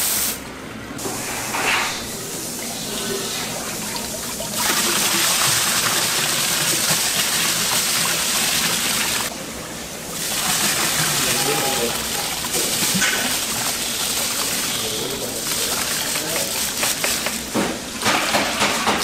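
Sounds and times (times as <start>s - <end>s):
water running hard: 2.0s - 19.0s.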